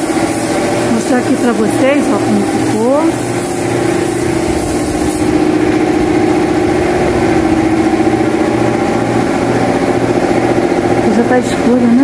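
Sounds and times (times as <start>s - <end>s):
machine humming with low throb: 0.0s - 12.0s.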